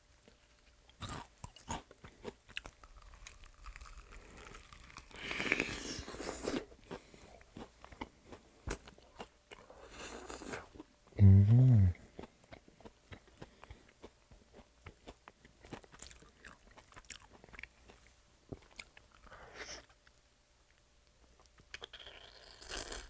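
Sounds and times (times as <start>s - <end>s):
crunchy fried chicken being chewed: 0.2s - 10.9s, 12.0s - 20.2s, 21.4s - 23.0s.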